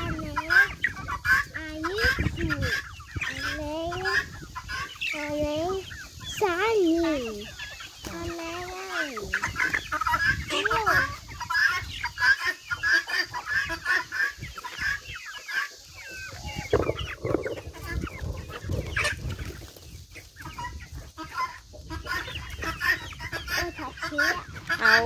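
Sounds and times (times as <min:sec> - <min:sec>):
chickens clucking and calling: 0:00.0 - 0:25.0.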